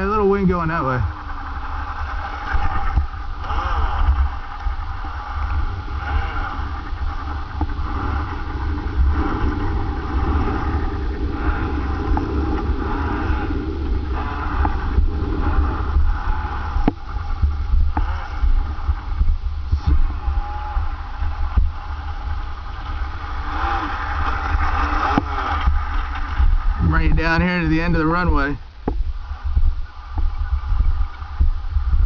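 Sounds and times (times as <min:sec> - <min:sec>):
model plane propeller buzzing: 0:00.0 - 0:32.0
wind rumble on microphone: 0:00.0 - 0:32.0.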